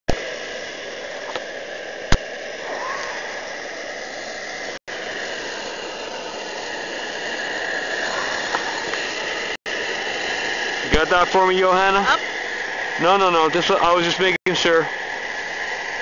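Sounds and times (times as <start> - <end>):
camp stove burner whistling hum: 0.1 - 16.0.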